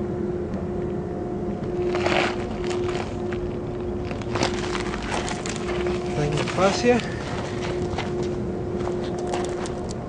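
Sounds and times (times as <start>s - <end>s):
constant low hum: 0.0s - 10.0s
crunching rustles: 1.6s - 10.0s.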